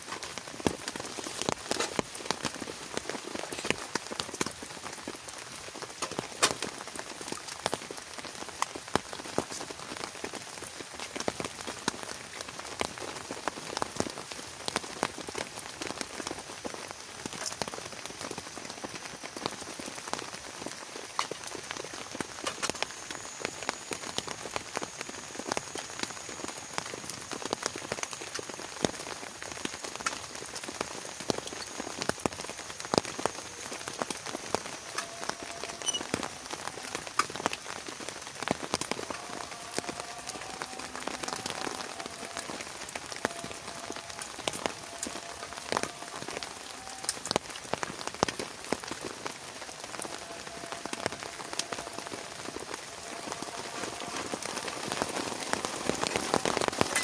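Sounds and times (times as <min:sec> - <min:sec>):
heavy rain: 0:00.0 - 0:57.0
raindrops ticking: 0:00.0 - 0:57.0.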